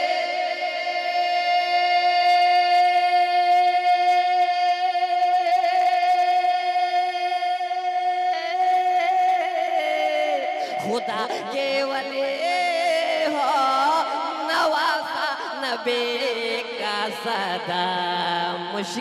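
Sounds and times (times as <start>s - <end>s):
man singing a long high note: 0.0s - 19.0s.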